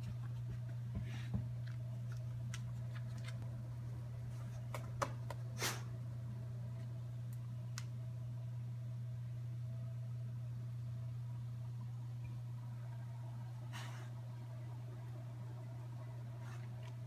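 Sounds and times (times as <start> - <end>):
aquarium equipment humming: 0.0 - 17.0.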